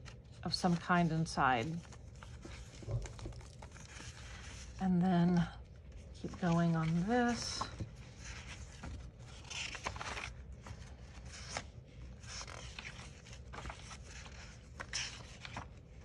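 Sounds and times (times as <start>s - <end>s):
paper pages rustling: 0.0s - 0.8s, 1.6s - 16.0s.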